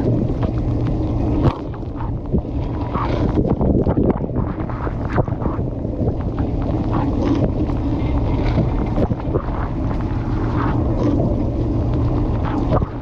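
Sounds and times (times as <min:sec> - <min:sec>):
dishwasher rumble: 0:00.0 - 0:13.0.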